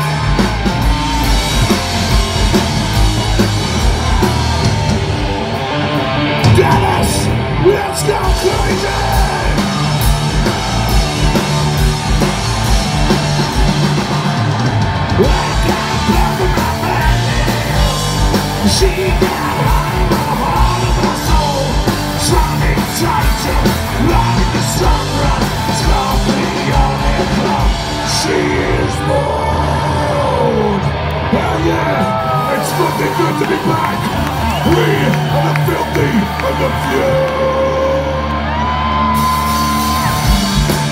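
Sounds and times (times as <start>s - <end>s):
bass guitar: 0.0s - 40.9s
distorted electric guitars: 0.0s - 40.9s
shouted vocals: 0.0s - 40.9s.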